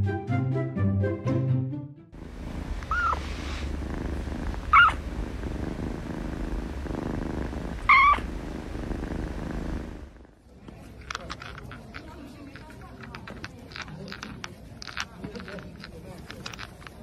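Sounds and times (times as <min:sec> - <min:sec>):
kitten purring: 0:02.2 - 0:17.0.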